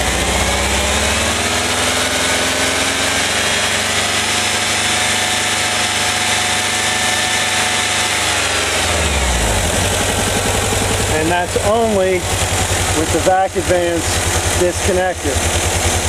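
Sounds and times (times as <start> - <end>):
van engine revving: 0.0 - 16.0.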